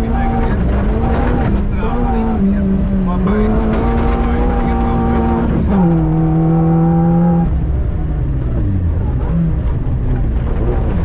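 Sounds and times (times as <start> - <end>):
car engine revving: 0.0 - 11.0
gravel rumbling under tyres: 0.0 - 11.0.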